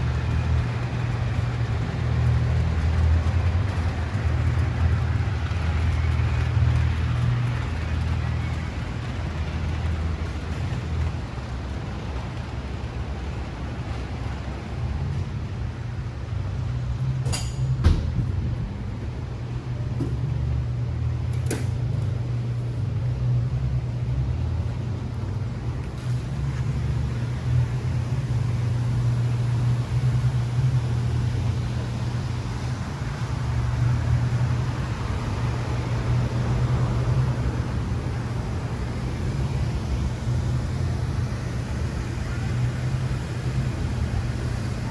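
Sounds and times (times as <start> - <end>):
broad rushing noise: 0.0 - 44.9
machinery humming: 0.0 - 44.9.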